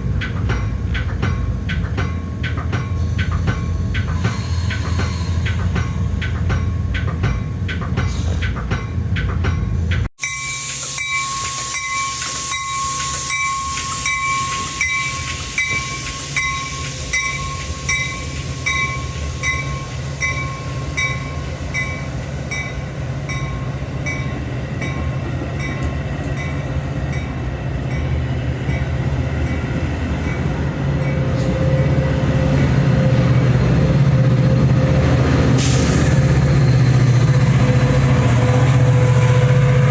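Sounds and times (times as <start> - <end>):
railroad warning bell ringing: 0.0 - 33.4
train rumbling: 0.0 - 39.9.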